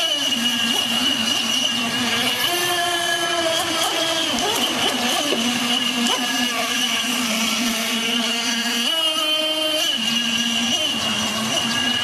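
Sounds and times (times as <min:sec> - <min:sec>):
model boat motor whine: 0:00.0 - 0:12.0.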